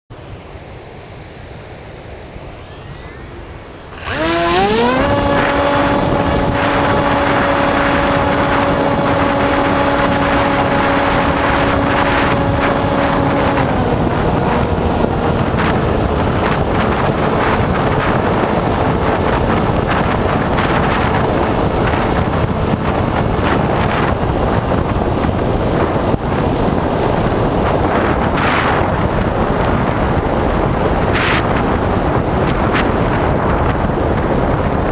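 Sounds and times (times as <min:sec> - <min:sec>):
electric motor and propeller whine: 0:02.0 - 0:34.9
wind buffeting on microphone: 0:02.1 - 0:34.9.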